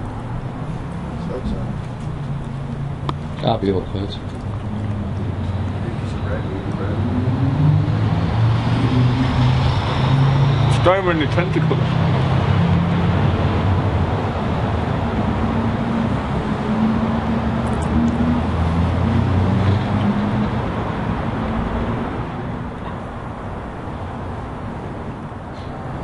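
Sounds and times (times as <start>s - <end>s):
low engine hum: 0.0s - 26.0s
nearby vehicle engine: 0.0s - 26.0s
road traffic: 0.0s - 26.0s.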